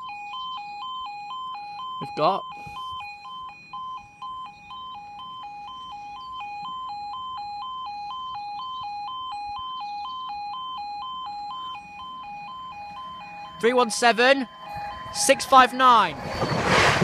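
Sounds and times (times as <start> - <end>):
two-tone electronic alarm: 0.0 - 17.0.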